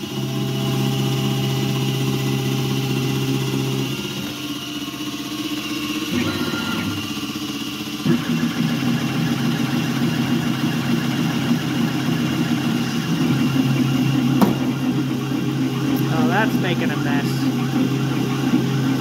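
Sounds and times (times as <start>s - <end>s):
mill cutting metal: 0.0s - 19.0s.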